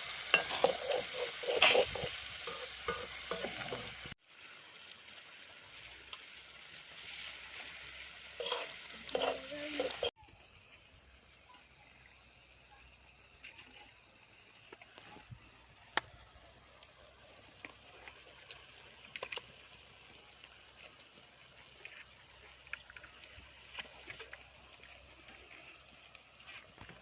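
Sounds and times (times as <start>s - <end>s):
faint outdoor hiss: 0.0s - 27.0s.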